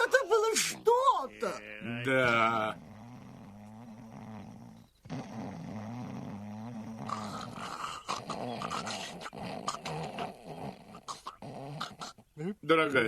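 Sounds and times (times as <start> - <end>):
man snoring loudly: 0.6 - 12.2.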